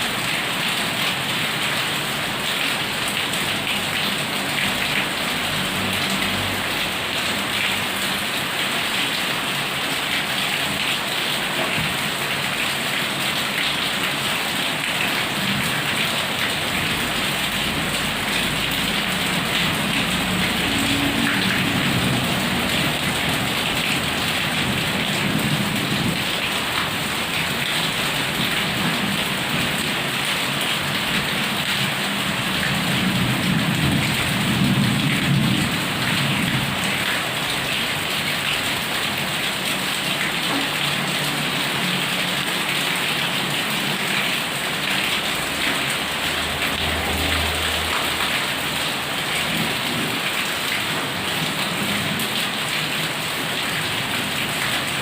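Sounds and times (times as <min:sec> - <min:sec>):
heavy rain hissing: 0:01.1 - 0:11.5, 0:13.9 - 0:39.5, 0:40.4 - 0:52.3.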